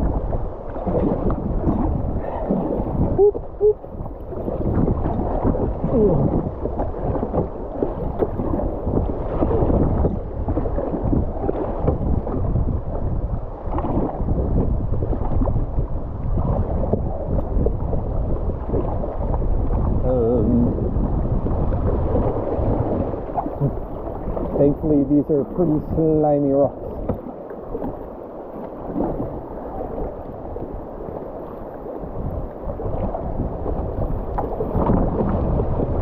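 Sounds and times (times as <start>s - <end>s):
whitewater rushing and splashing: 0.0s - 36.0s
wind buffeting microphone: 0.0s - 36.0s.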